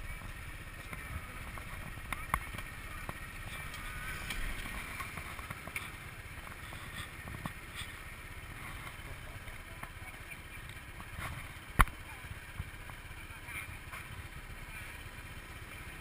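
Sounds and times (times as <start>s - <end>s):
motor scooter idling: 0.0s - 16.0s.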